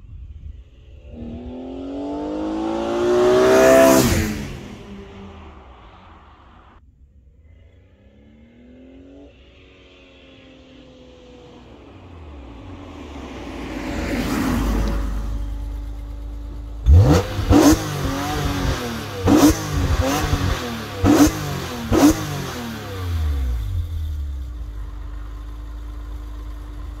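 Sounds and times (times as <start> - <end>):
car passing: 0.6 - 6.8, 7.5 - 23.8
car engine revving and idling: 0.7 - 6.8, 7.4 - 27.0.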